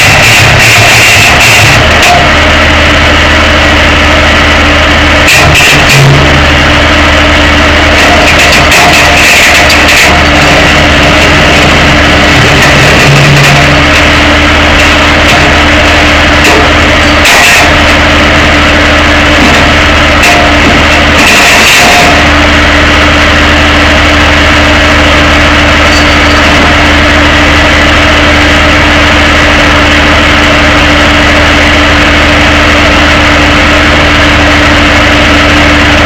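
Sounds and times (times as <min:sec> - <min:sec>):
truck engine hum: 0:00.0 - 0:36.0.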